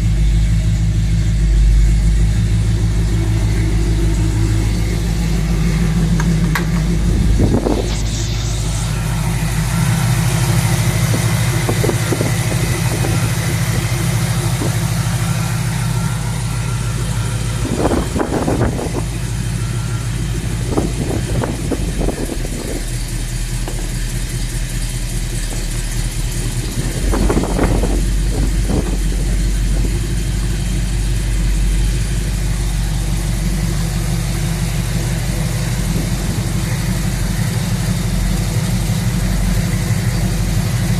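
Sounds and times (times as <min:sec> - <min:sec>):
pickup truck engine idling: 0:00.0 - 0:40.9.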